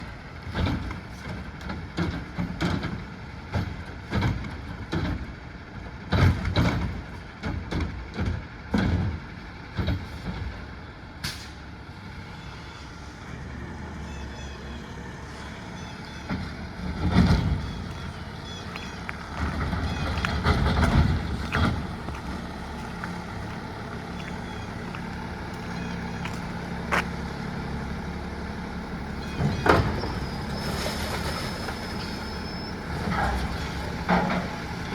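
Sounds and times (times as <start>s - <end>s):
garbage truck engine: 0.0s - 34.9s.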